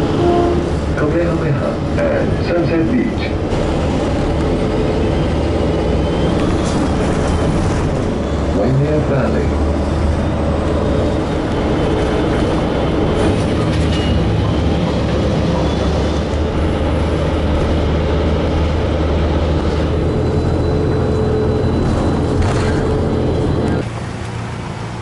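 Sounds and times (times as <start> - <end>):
tyre and road noise: 0.0 - 25.0.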